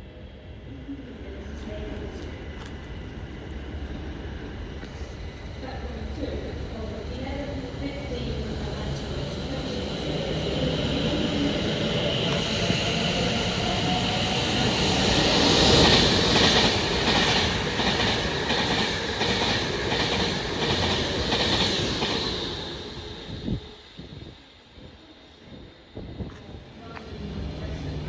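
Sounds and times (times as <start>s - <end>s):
train wheels rushing on rails: 0.4s - 28.0s.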